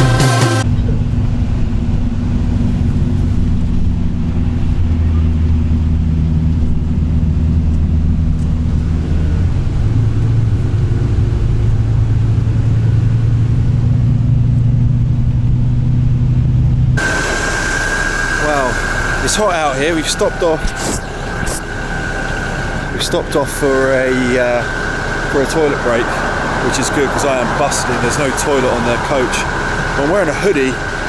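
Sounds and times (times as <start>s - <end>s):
bus engine droning: 0.0s - 31.0s.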